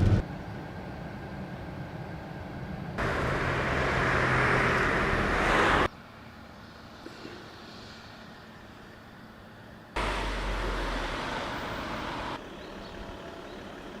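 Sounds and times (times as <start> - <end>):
wind and rain: 0.0 - 12.4.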